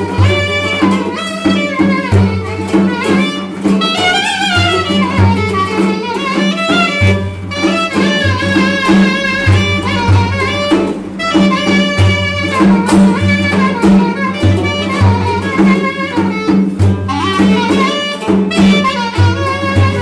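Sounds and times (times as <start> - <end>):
clarinet melody: 0.0 - 20.0
frame drum beat: 0.0 - 20.0
plucked lute: 0.0 - 20.0.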